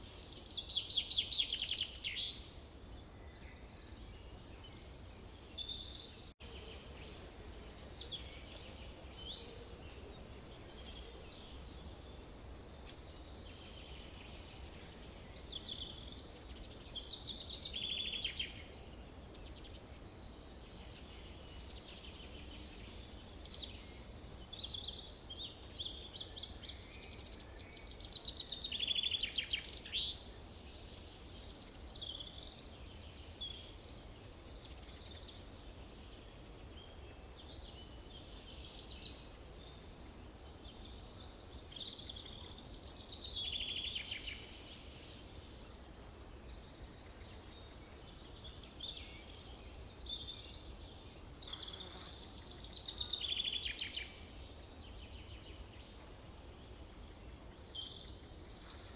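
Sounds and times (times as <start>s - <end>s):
birds singing and calling: 0.0s - 58.9s.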